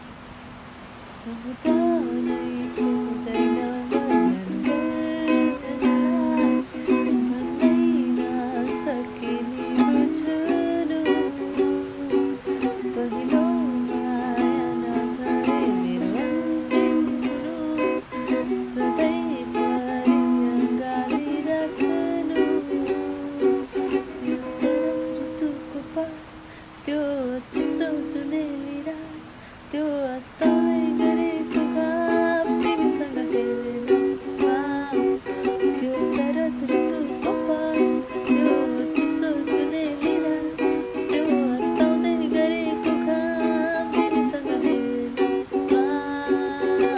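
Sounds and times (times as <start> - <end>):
woman singing: 1.0 - 46.9
strummed acoustic string instrument: 1.3 - 46.9.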